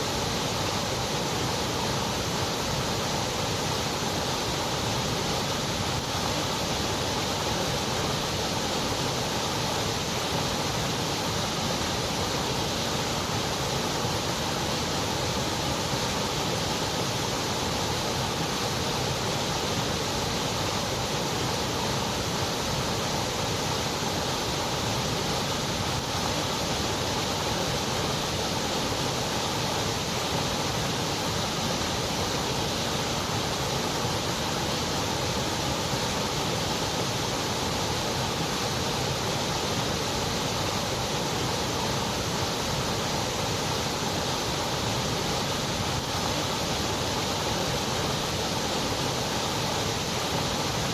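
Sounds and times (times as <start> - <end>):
white noise hiss: 0.0 - 50.9.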